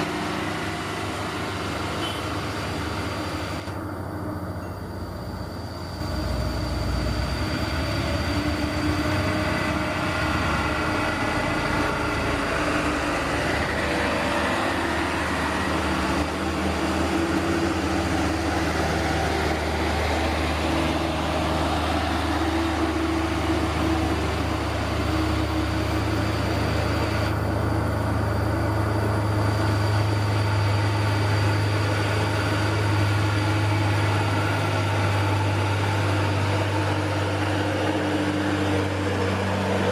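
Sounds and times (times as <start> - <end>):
model excavator motor drone: 0.0 - 39.9.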